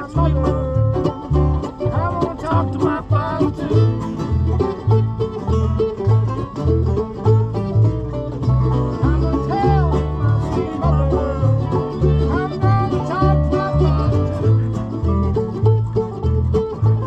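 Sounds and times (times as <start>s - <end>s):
banjo picking: 0.0s - 17.0s
bass line: 0.0s - 17.0s
guitar picking: 0.0s - 17.0s.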